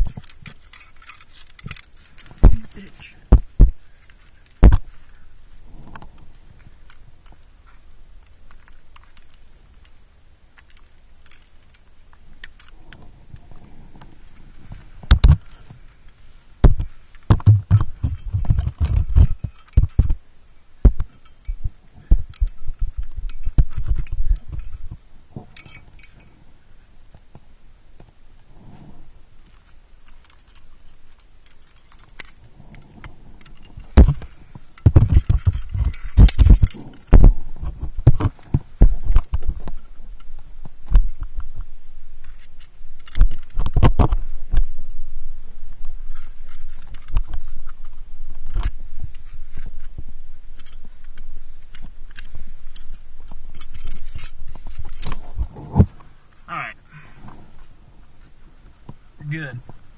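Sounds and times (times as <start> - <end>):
knocks and scrapes against rock: 0.0 - 9.9, 10.6 - 15.8, 16.6 - 20.2, 20.8 - 26.4, 28.5 - 45.0, 45.7 - 56.5
climbing gear clinking: 0.0 - 26.6, 28.4 - 58.4.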